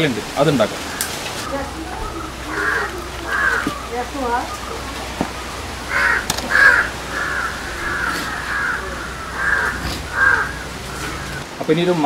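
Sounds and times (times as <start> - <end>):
crows cawing: 0.7 - 11.4.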